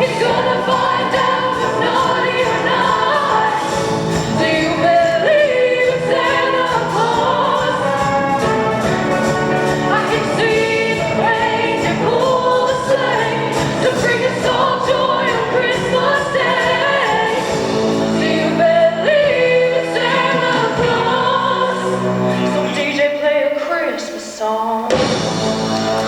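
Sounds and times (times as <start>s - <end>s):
choir singing: 0.0s - 26.0s
musical accompaniment: 0.0s - 26.0s.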